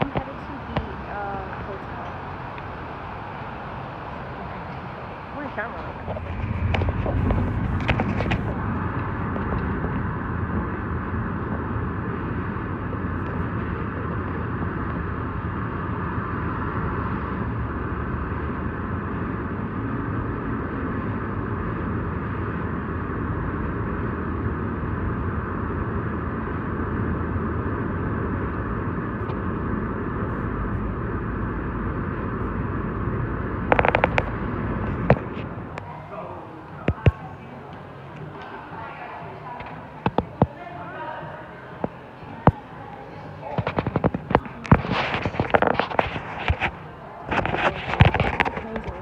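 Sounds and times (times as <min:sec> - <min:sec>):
vehicle road and engine noise: 0:00.0 - 0:49.0.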